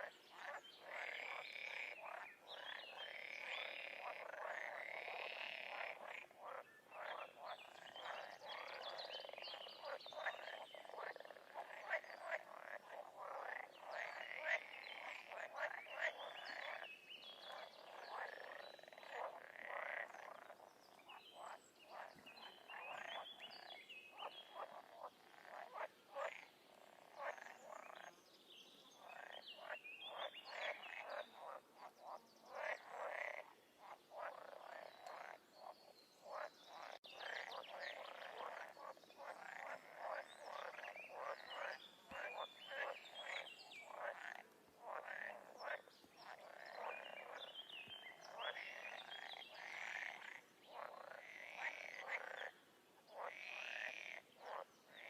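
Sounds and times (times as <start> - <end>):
frogs croaking: 0.0 - 28.2, 28.9 - 55.0.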